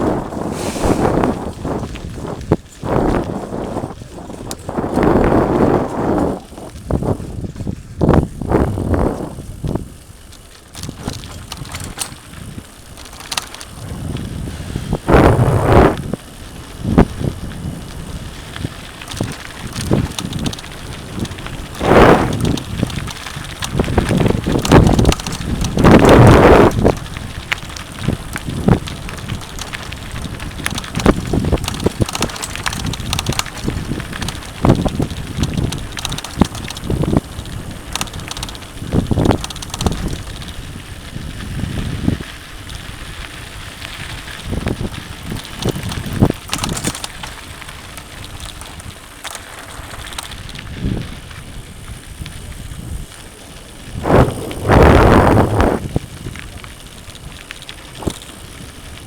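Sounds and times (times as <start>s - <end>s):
bike rattling over bumps: 0.0s - 59.0s
wind buffeting microphone: 0.0s - 59.0s
tyres crunching over dirt: 0.1s - 59.0s.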